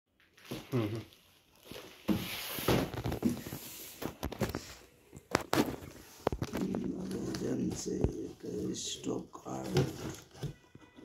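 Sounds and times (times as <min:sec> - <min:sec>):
cardboard rustling and scraping: 0:01.6 - 0:11.0.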